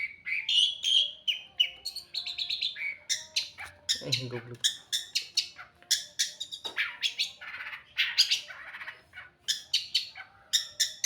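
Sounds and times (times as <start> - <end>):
bird chirping with scratchy notes: 0.0 - 11.0.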